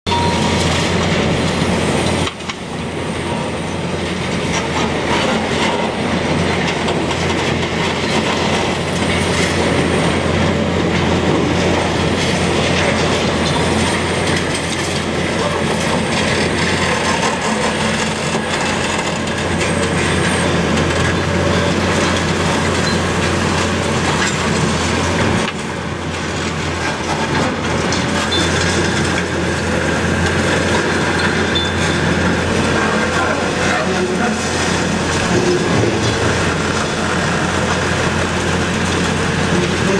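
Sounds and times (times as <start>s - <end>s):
diesel engine hum: 0.1s - 39.9s
metal and rubble clattering: 0.1s - 39.9s.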